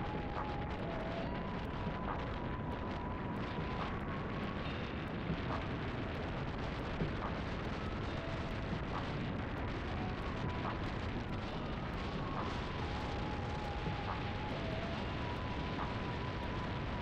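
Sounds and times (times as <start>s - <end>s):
faint thin whine: 0.0s - 17.0s
wind rushing over microphone: 0.0s - 17.0s.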